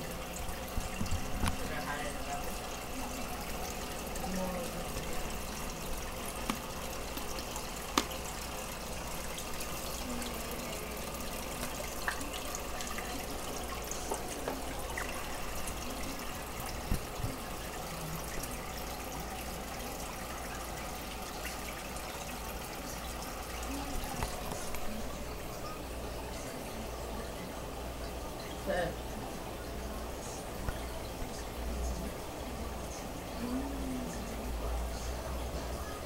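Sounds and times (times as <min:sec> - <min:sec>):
aquarium water bubbling: 0:00.0 - 0:36.0.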